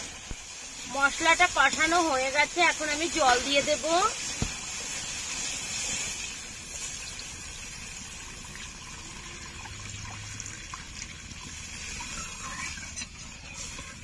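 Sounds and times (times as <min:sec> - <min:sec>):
water pouring into hot pan: 0:00.0 - 0:14.0.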